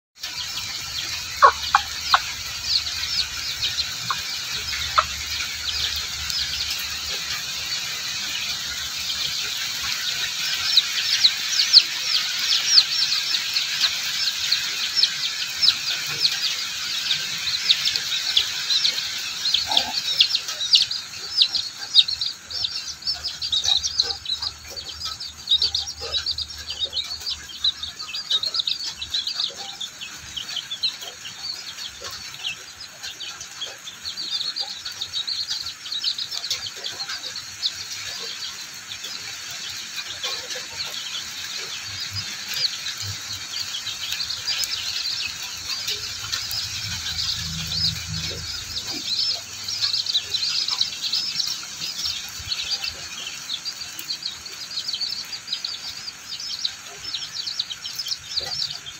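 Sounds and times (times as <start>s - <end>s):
chicks peeping: 0.2s - 58.9s
hen clucking: 0.2s - 58.9s.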